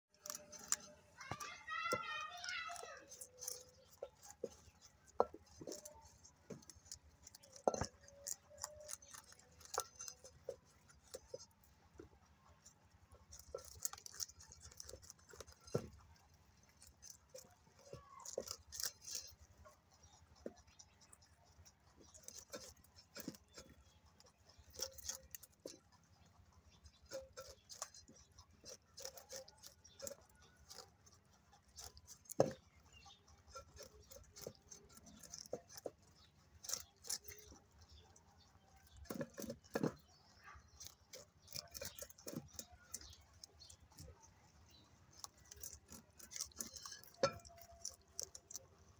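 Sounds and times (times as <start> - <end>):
rabbits crunching carrots: 0.1 - 48.9.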